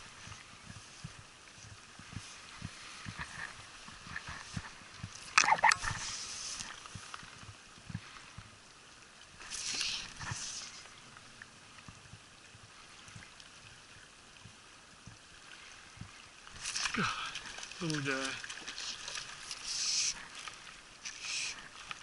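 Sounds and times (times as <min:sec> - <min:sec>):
faint running water: 0:00.0 - 0:22.0
water splashing: 0:00.0 - 0:22.0.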